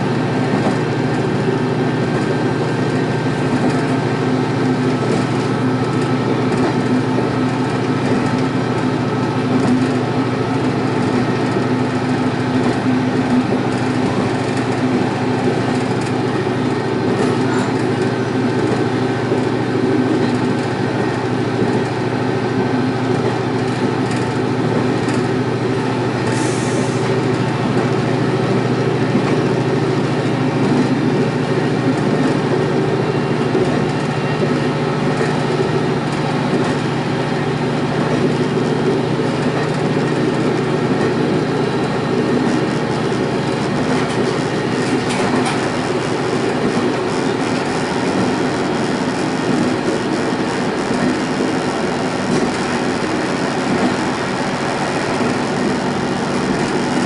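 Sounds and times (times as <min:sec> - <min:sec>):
diesel engine drone: 0:00.0 - 0:57.0
wheels running on rails: 0:00.0 - 0:57.0.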